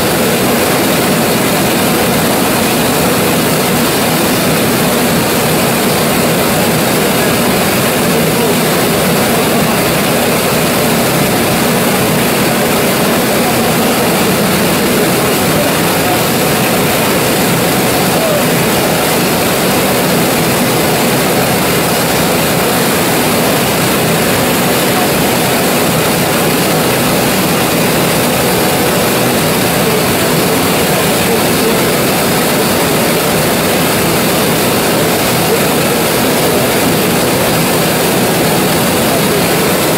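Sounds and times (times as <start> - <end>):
oil engine running steadily: 0.0 - 39.9.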